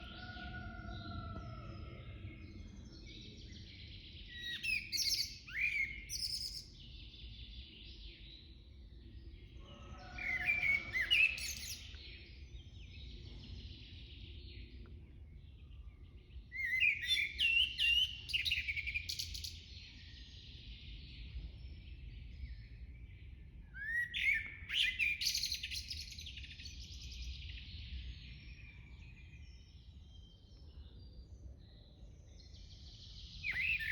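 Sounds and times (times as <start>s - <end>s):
songbirds chirping: 0.0s - 33.9s.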